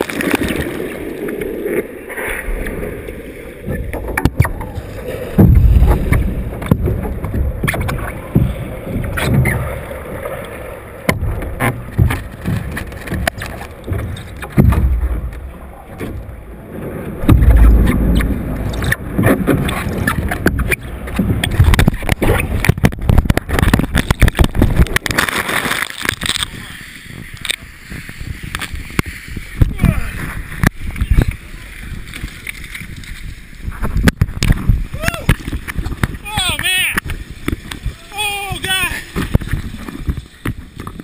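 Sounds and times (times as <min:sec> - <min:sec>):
muffled water sloshing: 0:00.0 - 0:41.0.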